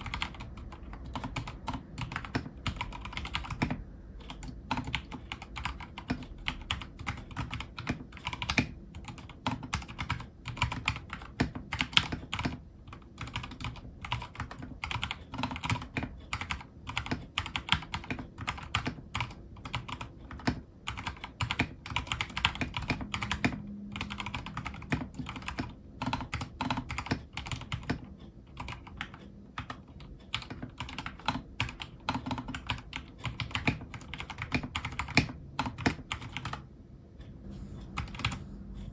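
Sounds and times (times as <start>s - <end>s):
mechanical keyboard typing: 0.0s - 36.7s, 37.9s - 38.9s.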